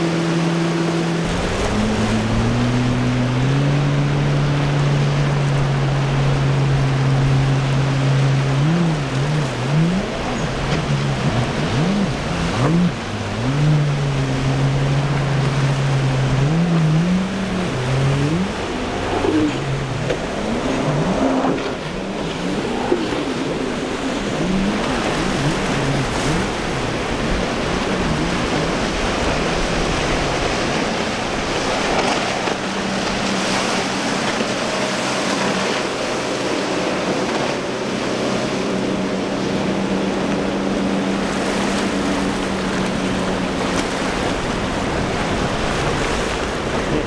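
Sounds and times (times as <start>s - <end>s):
outboard motors running: 0.0s - 47.0s
surf breaking: 0.0s - 47.0s.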